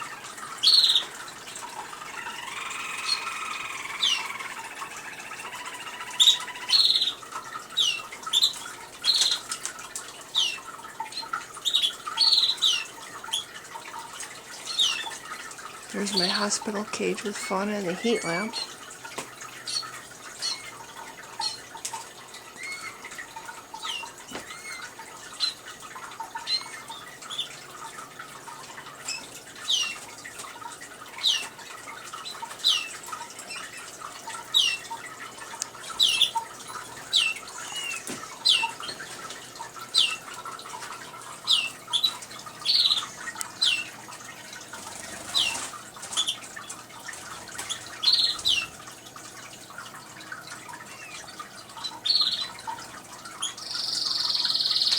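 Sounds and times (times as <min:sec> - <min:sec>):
cage birds chirping: 0:00.0 - 0:48.9, 0:49.6 - 0:54.9
indoor water fountain trickling: 0:00.0 - 0:54.9.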